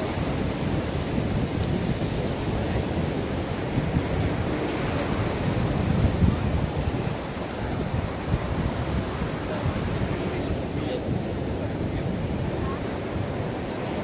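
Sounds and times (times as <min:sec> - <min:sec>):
ocean waves on shore: 0:00.0 - 0:14.0
wind buffeting microphone: 0:00.0 - 0:14.0.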